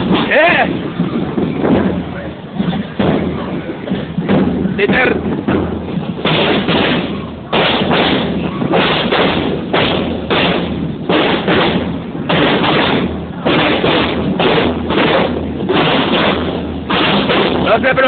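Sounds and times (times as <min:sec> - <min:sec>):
marching drums: 0:00.0 - 0:18.0.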